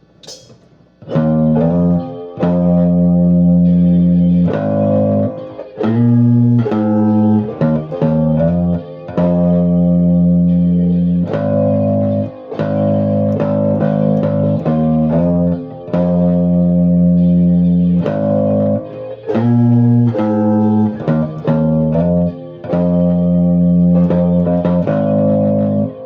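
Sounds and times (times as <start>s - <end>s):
guitar chords and picked notes: 0.0s - 26.0s.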